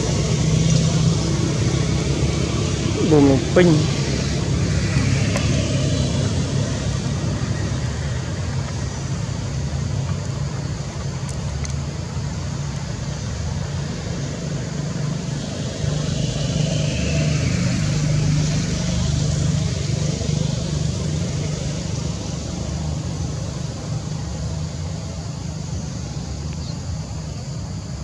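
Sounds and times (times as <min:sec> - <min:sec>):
background rush: 0:00.0 - 0:28.0
engine hum: 0:00.0 - 0:28.0.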